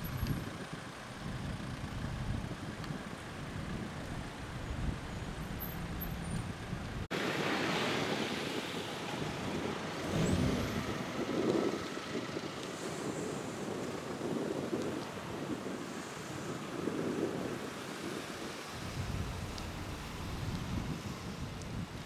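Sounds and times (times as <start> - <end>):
car engines in slow traffic: 0.0 - 22.0
wind on microphone: 0.0 - 22.0.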